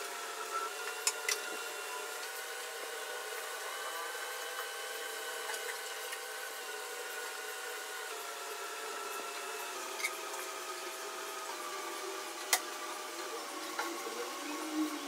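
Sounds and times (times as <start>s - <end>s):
small electric motor humming: 0.0s - 15.0s.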